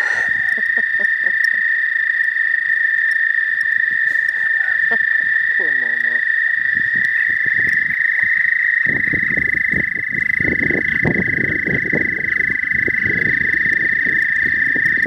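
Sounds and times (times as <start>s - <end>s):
toads trilling: 0.0s - 15.0s.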